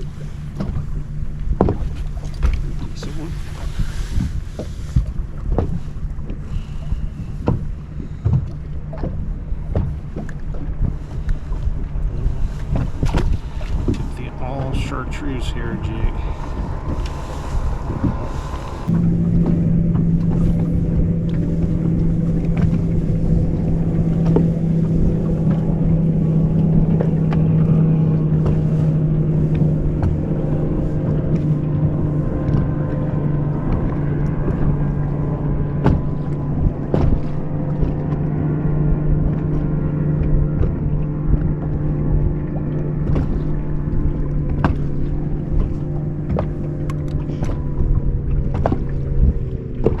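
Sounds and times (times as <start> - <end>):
boat motor humming: 0.0 - 50.0.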